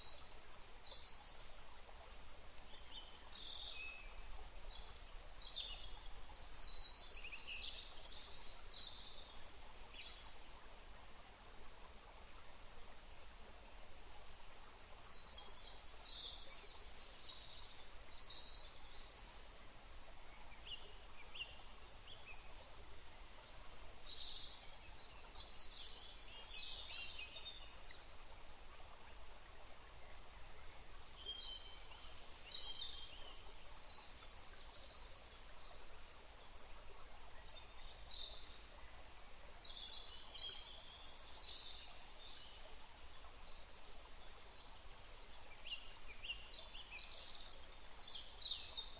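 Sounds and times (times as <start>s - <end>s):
background hiss: 0.0s - 48.9s.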